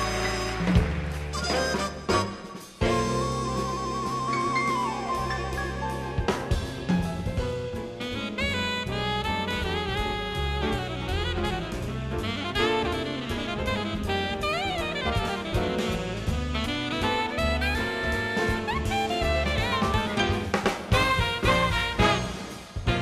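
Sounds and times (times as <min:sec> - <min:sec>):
drum kit: 0:00.0 - 0:23.0
piano: 0:00.0 - 0:23.0
saxophone melody: 0:00.0 - 0:23.0.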